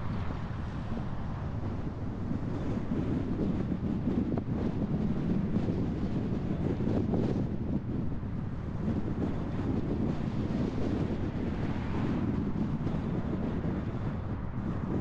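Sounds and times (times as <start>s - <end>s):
car road and engine rumble: 0.0s - 15.0s
wind buffeting microphone: 0.0s - 15.0s.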